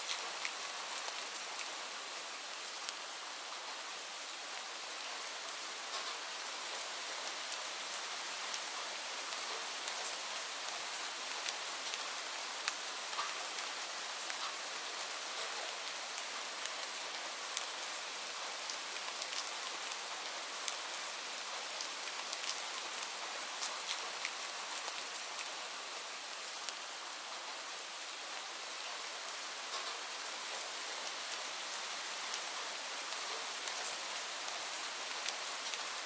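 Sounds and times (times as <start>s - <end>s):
rain falling on leaves: 0.0s - 36.0s.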